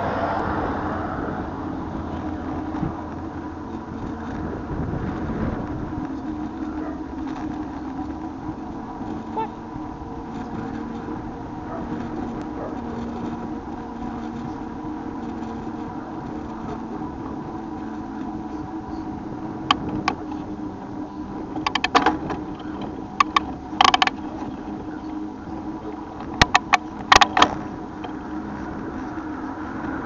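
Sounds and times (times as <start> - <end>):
bicycle being ridden: 0.0 - 30.0
steady hum: 0.0 - 30.0
sharp clicks and rattles: 1.5 - 30.0.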